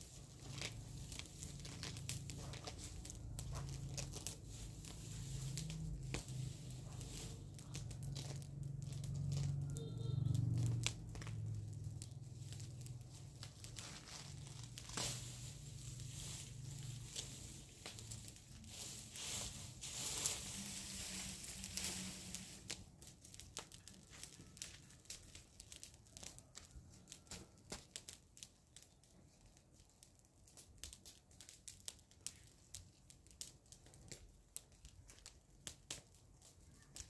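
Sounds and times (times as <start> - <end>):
dry leaves rustling and crunching: 0.0 - 37.0
light clicks and crackles: 0.0 - 37.0.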